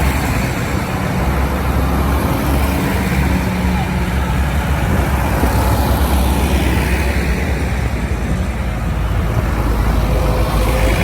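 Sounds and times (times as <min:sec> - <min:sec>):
tractor engines rumbling: 0:00.0 - 0:11.0.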